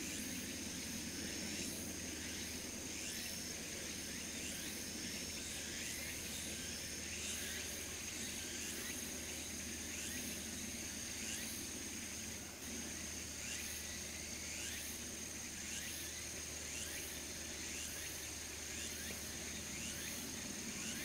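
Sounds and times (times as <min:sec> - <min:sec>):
insect chirps: 0:00.0 - 0:21.0
insect high trill: 0:00.0 - 0:21.0
low background hum: 0:00.0 - 0:21.0.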